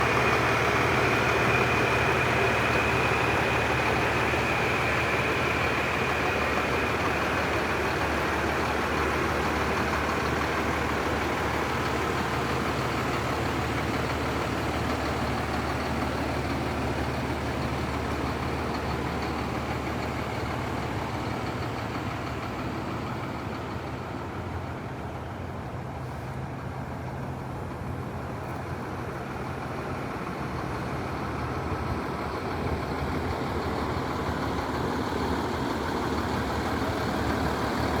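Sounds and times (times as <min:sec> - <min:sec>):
diesel fire engine idling: 0:00.0 - 0:38.0.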